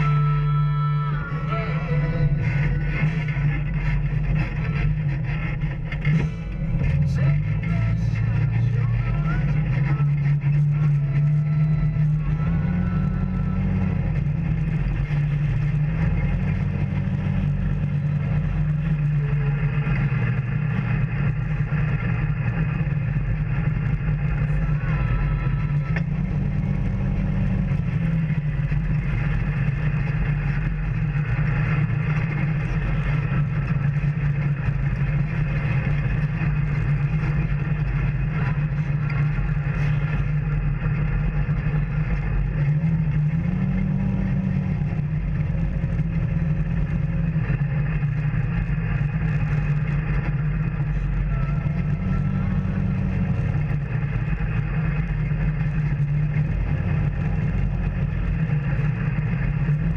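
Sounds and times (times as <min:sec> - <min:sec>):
off-road vehicle engine: 0:00.0 - 0:59.9.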